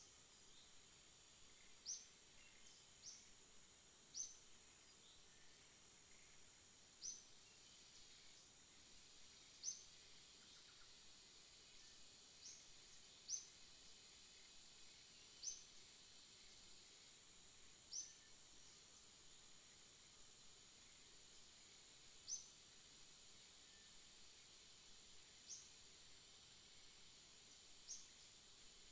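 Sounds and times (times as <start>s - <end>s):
high insect hiss: 0.0s - 28.9s.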